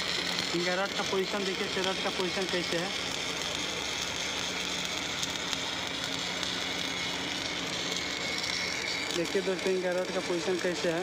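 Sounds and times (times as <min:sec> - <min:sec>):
welding arc crackling and sizzling: 0:00.0 - 0:11.0.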